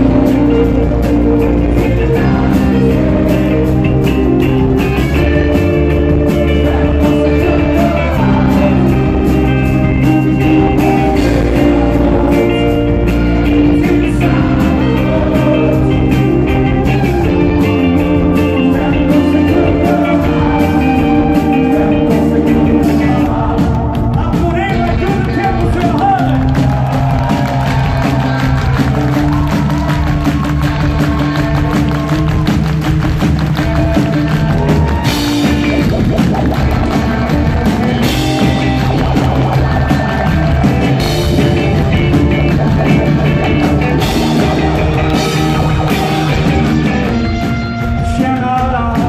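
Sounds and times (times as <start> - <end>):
drum kit: 0.0 - 49.0
electric guitars: 0.0 - 49.0.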